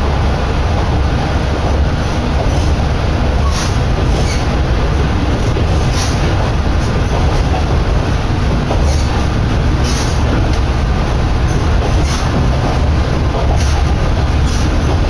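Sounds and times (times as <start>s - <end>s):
diesel railcar rumble: 0.0s - 15.0s
wheels clacking over rail joints: 0.0s - 15.0s
wind through open window: 0.0s - 15.0s.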